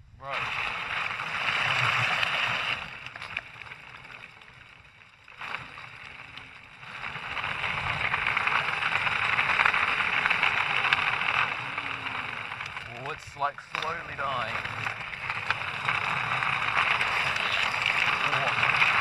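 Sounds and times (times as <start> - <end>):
wheels hissing on asphalt: 0.0 - 19.0.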